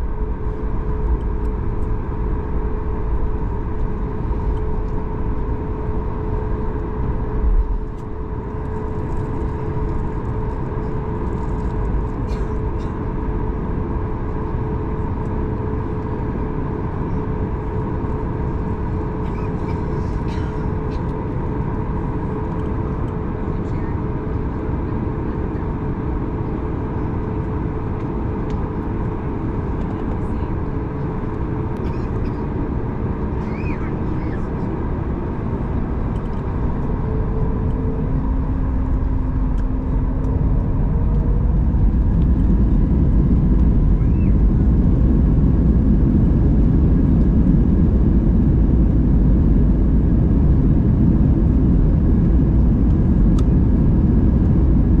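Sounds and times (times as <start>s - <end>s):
airliner rolling rumble: 0.0s - 55.0s
jet engines humming: 0.0s - 55.0s.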